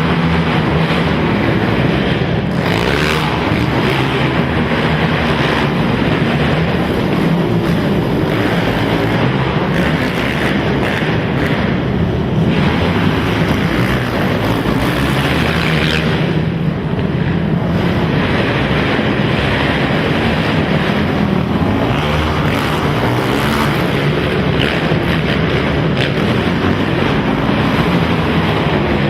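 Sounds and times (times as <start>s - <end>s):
quad engines revving: 0.0s - 29.0s.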